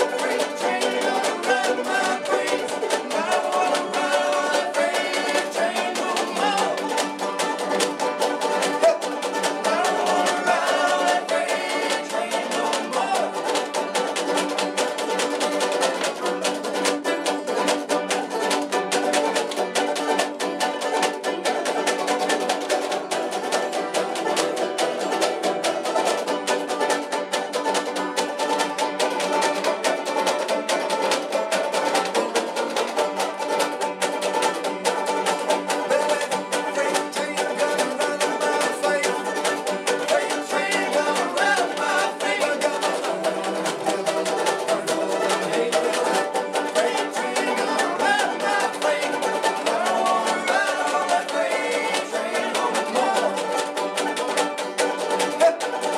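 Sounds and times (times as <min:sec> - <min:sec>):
banjos plucking: 0:00.0 - 0:55.9.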